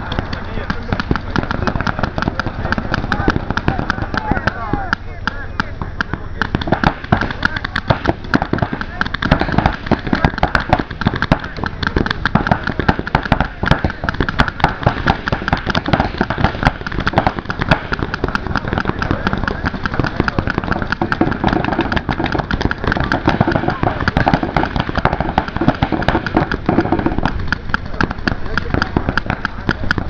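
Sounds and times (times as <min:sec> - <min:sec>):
paintball markers firing: 0:00.0 - 0:30.0.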